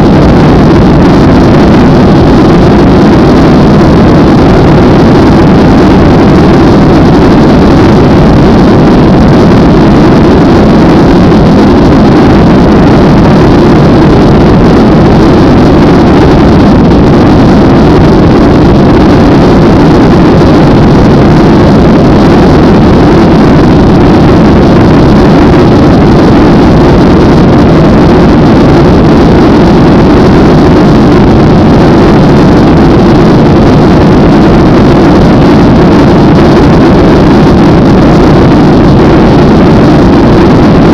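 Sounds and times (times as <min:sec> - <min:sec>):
airliner engine and airflow noise: 0:00.0 - 0:40.9.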